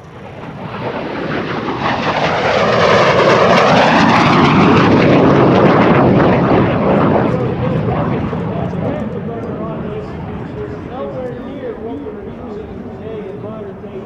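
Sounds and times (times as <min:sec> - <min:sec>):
jet fighter passing: 0:00.0 - 0:14.0.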